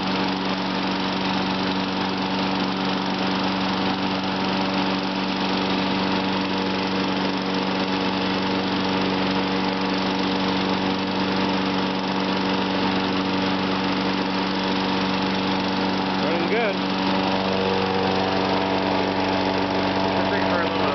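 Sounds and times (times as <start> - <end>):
riding lawn mower engine running: 0.0 - 20.9.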